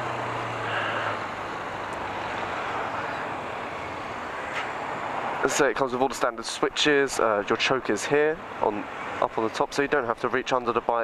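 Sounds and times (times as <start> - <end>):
low engine hum: 0.0 - 10.8
road traffic rushing: 0.0 - 11.0.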